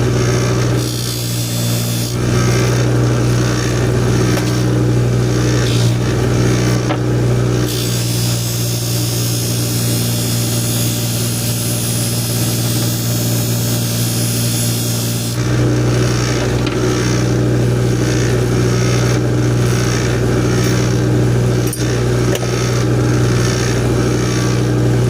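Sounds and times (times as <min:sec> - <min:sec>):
buffer motor hum: 0:00.0 - 0:25.0.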